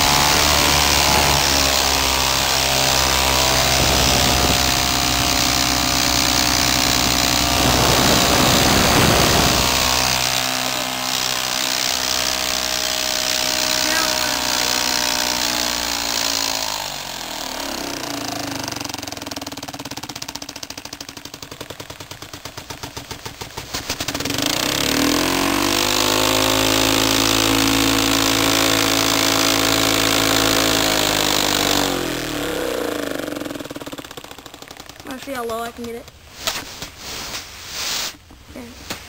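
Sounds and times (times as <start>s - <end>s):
toy air engine whine and puffs: 0.0s - 38.2s.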